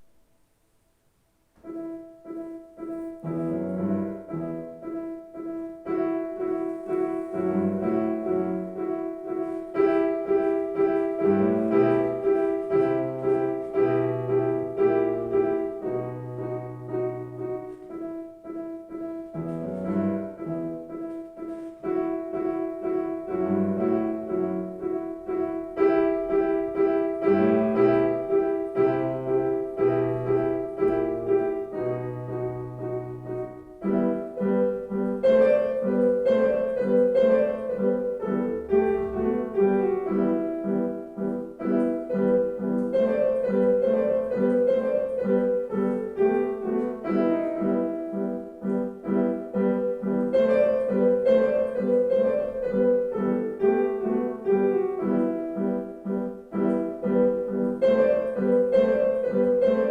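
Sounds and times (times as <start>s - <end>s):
solo piano piece: 0.0s - 59.9s.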